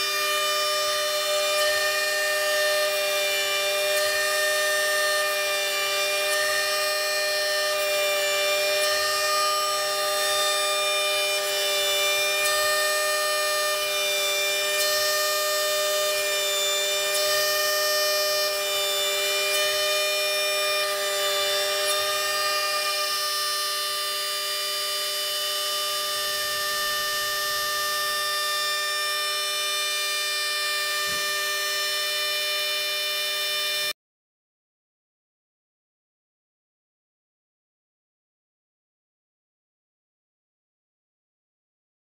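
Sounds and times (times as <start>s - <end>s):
spindle motor high-pitched whine: 0.0s - 34.0s.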